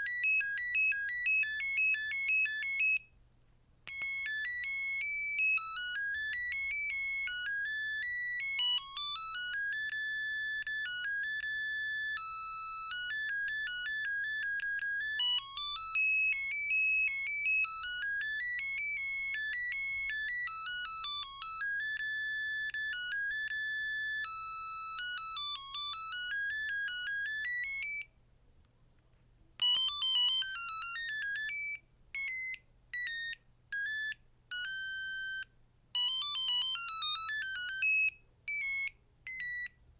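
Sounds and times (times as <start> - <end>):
electronic ringtone melody: 0.0 - 3.1, 3.9 - 28.1, 29.6 - 39.8
fast ringtone: 0.0 - 3.1, 3.9 - 28.1, 29.6 - 39.8.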